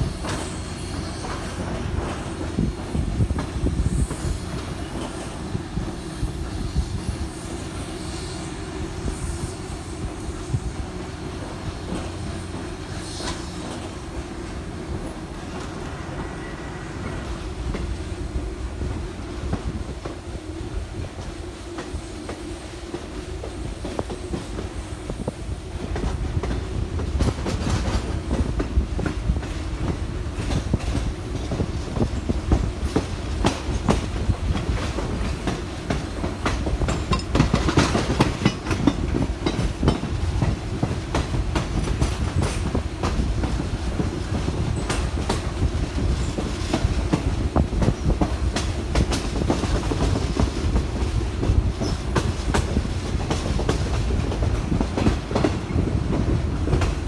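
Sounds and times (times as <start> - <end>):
train wheels clacking over rail joints: 0.0 - 16.4, 21.0 - 57.0.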